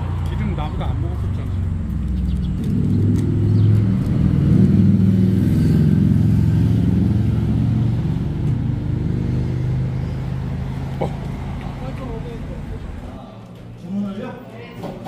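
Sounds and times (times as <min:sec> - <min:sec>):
vehicle engine droning: 0:00.0 - 0:13.6.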